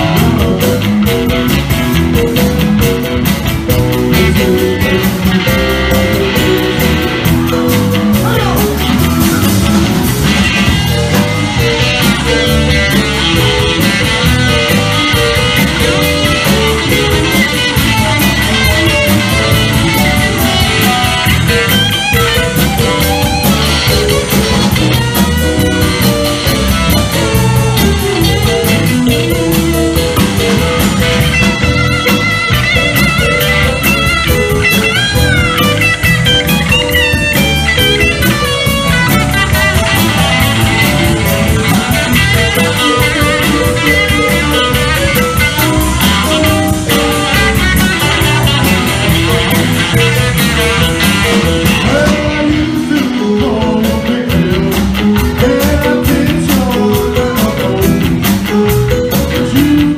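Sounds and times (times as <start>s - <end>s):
electric guitar: 0.0s - 59.9s
rock band playing: 0.0s - 59.9s.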